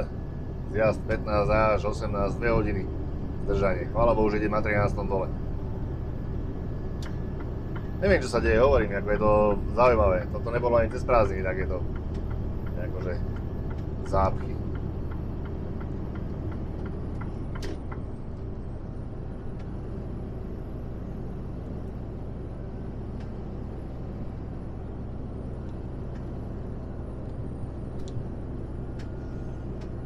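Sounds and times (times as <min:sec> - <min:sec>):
diesel engine drone: 0:00.0 - 0:30.0
road and tyre noise: 0:00.0 - 0:30.0.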